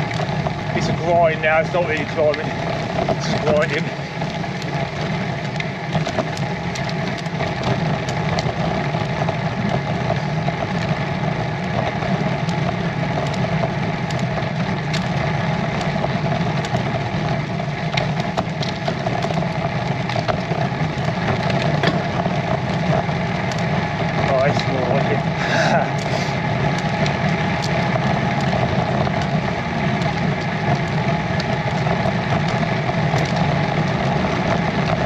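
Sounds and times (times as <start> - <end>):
bike tyres rumbling on tarmac: 0.0 - 35.0.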